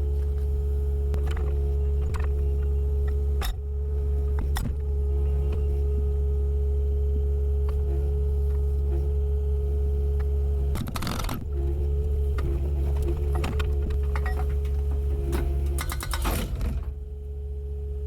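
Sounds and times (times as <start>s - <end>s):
diesel engine running: 0.0s - 18.0s
engine whine: 0.0s - 18.0s.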